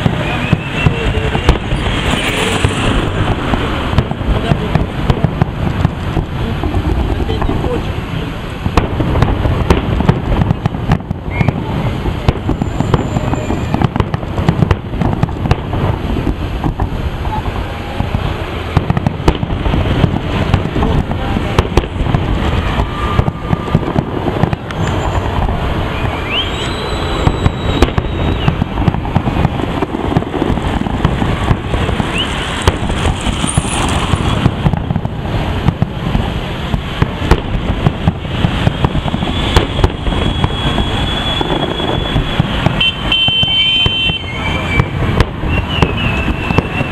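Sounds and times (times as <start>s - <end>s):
firework shells bursting: 0.0s - 46.9s.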